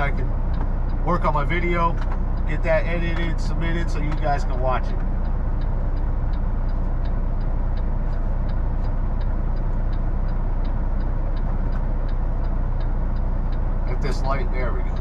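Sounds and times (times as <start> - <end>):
diesel truck engine idling: 0.0 - 15.0
faint light ticking: 0.0 - 15.0.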